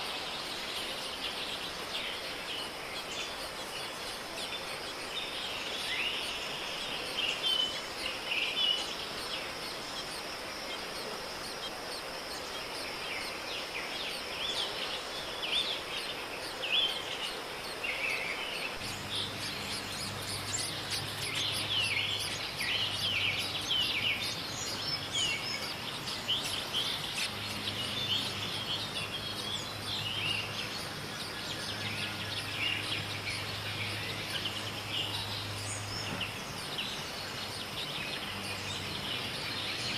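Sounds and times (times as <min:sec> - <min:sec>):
outdoor background noise: 0:00.0 - 0:39.9
small birds chirping: 0:00.0 - 0:39.9.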